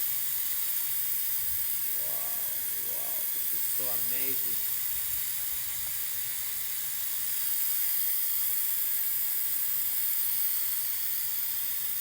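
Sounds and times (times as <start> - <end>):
faint motor whine: 0.0 - 12.0.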